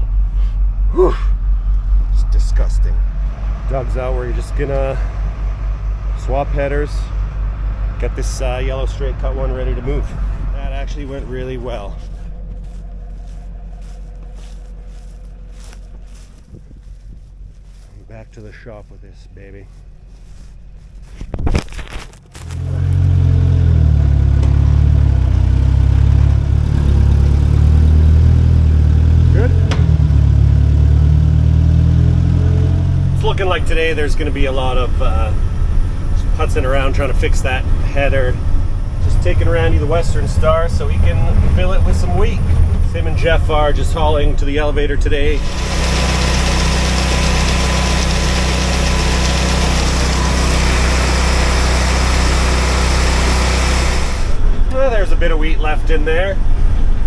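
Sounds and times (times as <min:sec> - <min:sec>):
heavy farm vehicle engine running: 0:00.0 - 0:57.0.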